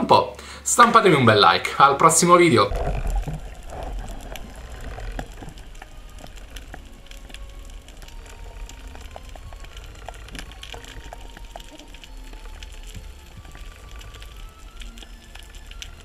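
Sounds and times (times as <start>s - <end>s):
low rumble of moving water: 1.3s - 16.0s.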